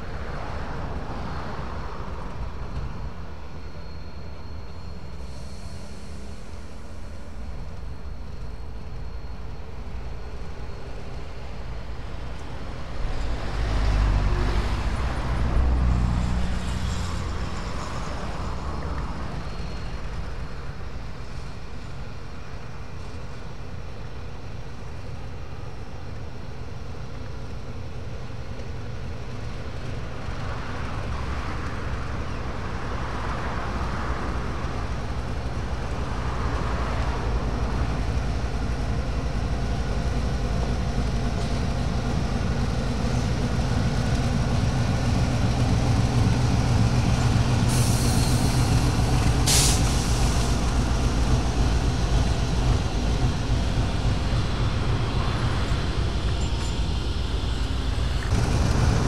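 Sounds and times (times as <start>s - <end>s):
diesel locomotive engine rumbling: 0.0s - 59.0s.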